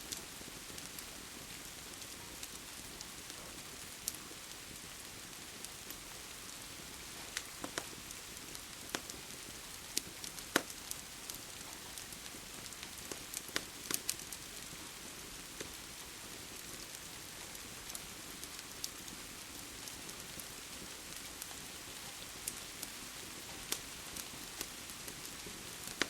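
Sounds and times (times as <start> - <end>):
steady rain hiss: 0.0 - 26.0
wood fire crackling: 0.0 - 26.0.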